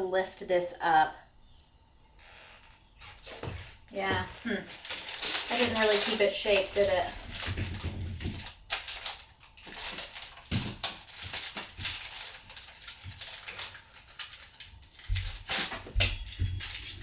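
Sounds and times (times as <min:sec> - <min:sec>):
parchment paper crackling: 0:02.2 - 0:17.0.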